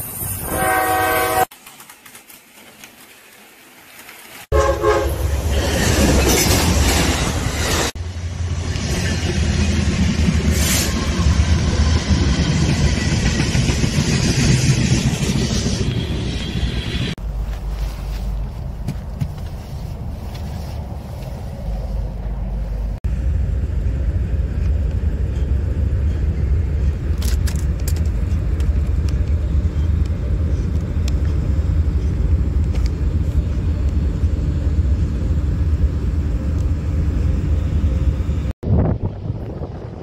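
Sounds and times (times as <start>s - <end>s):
diesel locomotives rumbling past: 4.5s - 40.0s.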